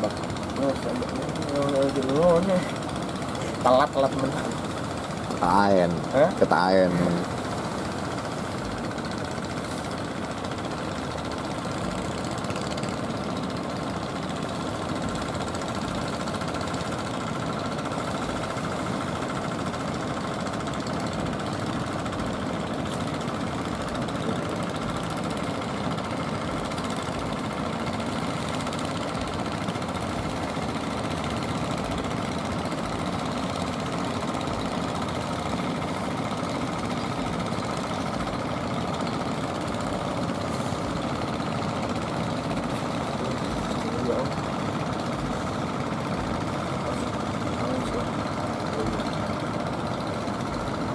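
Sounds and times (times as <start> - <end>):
boat engines droning: 0.0 - 50.9.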